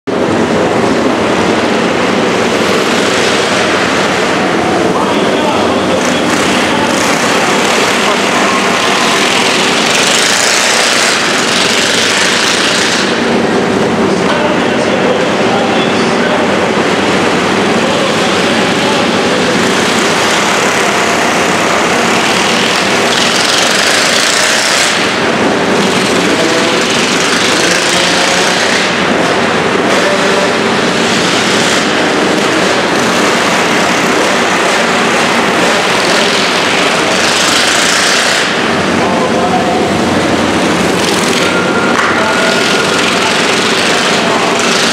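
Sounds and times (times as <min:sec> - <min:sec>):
mini bike engines racing: 0:00.1 - 0:44.9.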